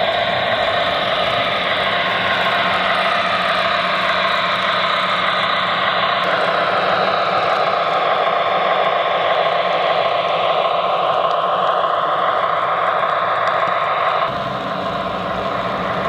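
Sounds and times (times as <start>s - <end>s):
model locomotive engine drone: 0.0s - 16.0s.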